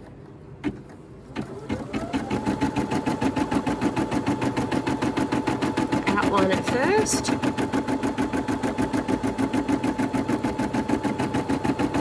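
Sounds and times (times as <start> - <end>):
needle stitching rhythm: 0.6 - 12.0.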